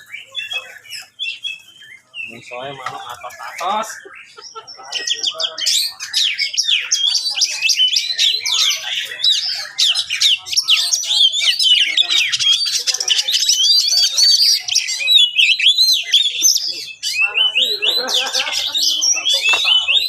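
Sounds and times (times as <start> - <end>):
bird singing whistles and chirps: 0.0 - 20.0.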